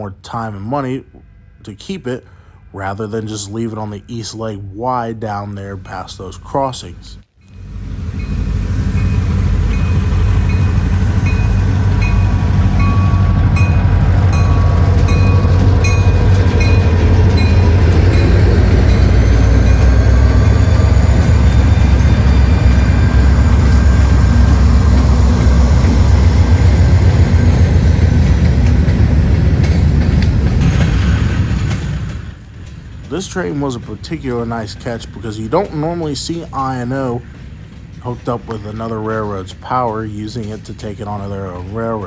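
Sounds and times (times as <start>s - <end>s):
diesel locomotives rumbling: 0.0s - 42.0s
rail cars rolling: 0.0s - 42.0s.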